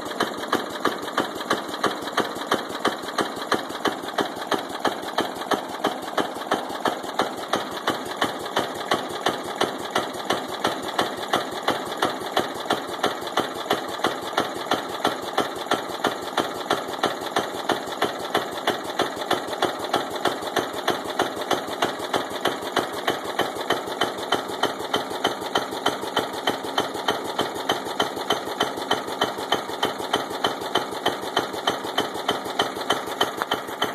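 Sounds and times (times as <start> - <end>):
lawn tractor engine with rod knock: 0.0 - 33.9.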